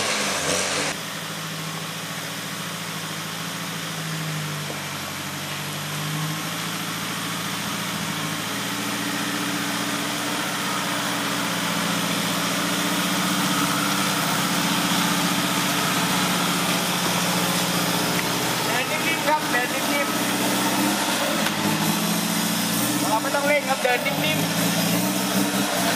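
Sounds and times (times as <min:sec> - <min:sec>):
vehicle engine running at low revs: 0:00.0 - 0:25.9.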